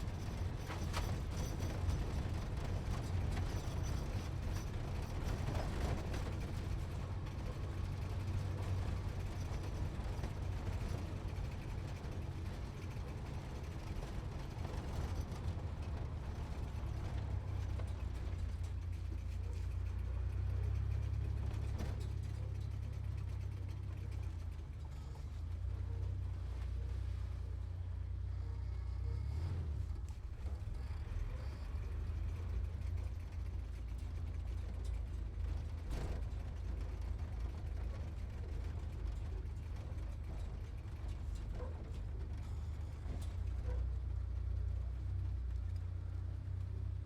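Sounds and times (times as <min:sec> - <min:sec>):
sports car engine rumble: 0:00.0 - 0:47.0.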